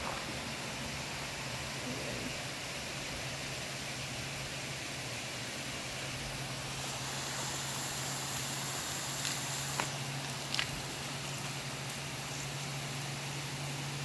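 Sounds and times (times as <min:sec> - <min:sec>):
rushing hiss: 0:00.0 - 0:14.0.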